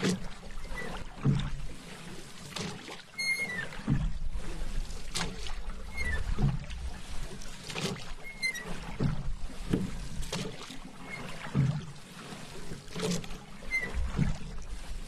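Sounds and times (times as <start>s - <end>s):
paddle strokes splashing: 0.0s - 15.0s
steady water noise: 0.0s - 15.0s.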